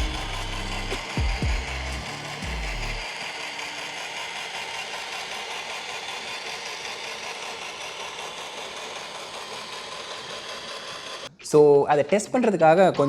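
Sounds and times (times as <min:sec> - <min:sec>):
robot vacuum whirring: 0:00.0 - 0:11.3.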